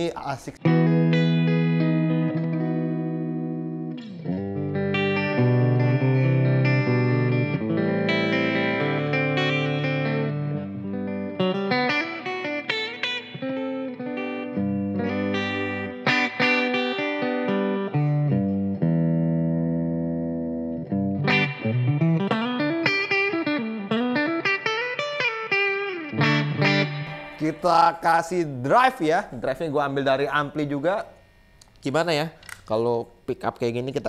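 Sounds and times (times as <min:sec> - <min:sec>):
clean electric guitar with reverb: 0:00.0 - 0:31.6.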